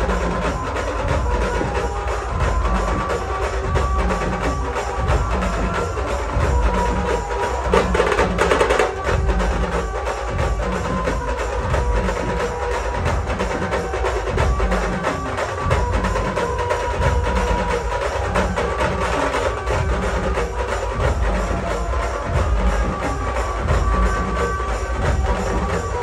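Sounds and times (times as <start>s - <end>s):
fast percussion beat: 0.0s - 26.0s.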